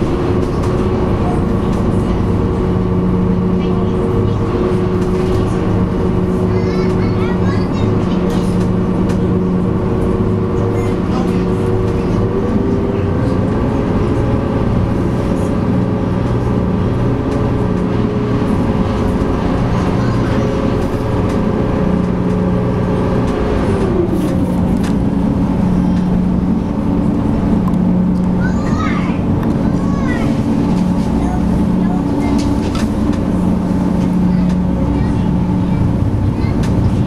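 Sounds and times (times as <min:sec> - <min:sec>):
ferry engines droning: 0:00.0 - 0:37.0.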